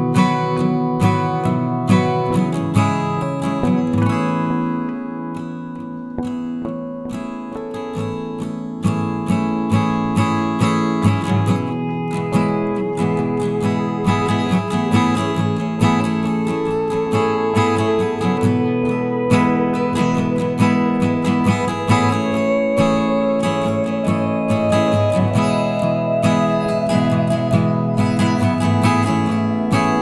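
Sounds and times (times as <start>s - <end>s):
strummed acoustic guitar music: 0.0s - 30.0s.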